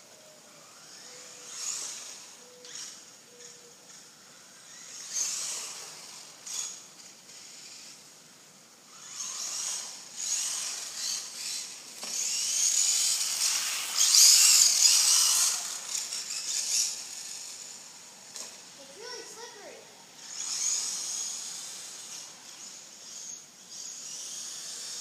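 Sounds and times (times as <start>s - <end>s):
rc truck motor whining: 0.0s - 25.0s.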